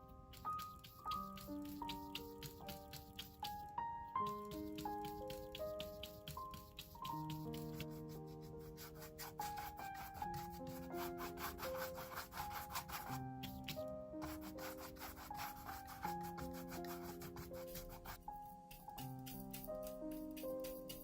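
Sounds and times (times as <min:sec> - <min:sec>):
paintbrush scrubbing on canvas: 0:00.0 - 0:21.0
soft piano music: 0:00.0 - 0:21.0.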